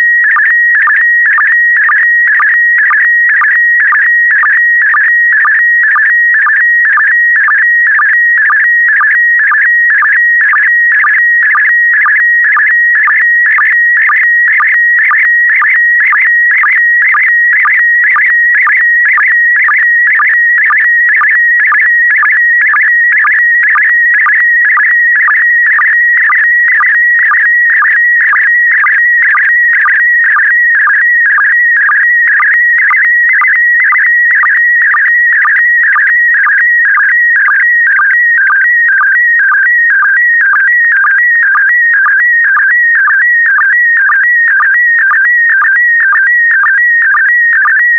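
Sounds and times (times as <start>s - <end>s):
low sync beeps: 0.0s - 47.9s.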